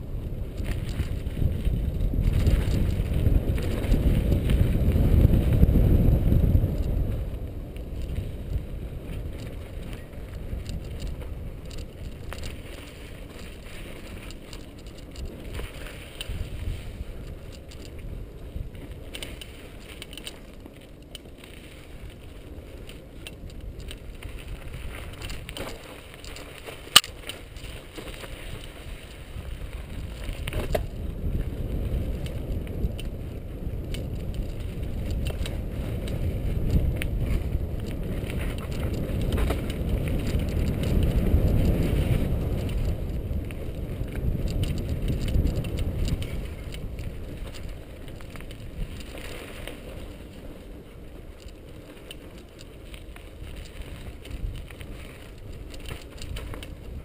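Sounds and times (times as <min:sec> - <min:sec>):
bike clicks and rattles: 0:00.0 - 0:57.0
bike tyres rumbling on dirt: 0:00.0 - 0:57.0.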